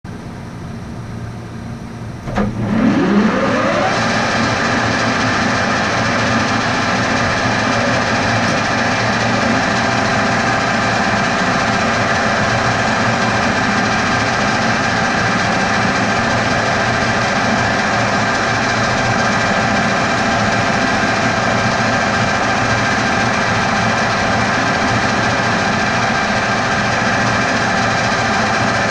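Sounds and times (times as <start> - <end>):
machine humming and whining: 0.1 - 28.9.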